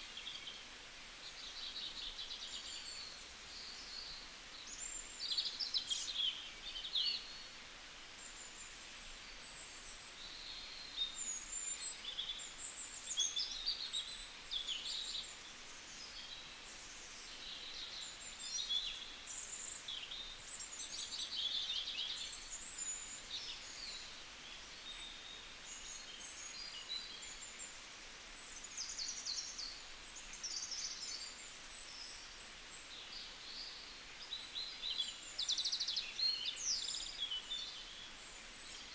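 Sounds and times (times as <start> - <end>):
faint steady hiss: 0.0 - 38.9.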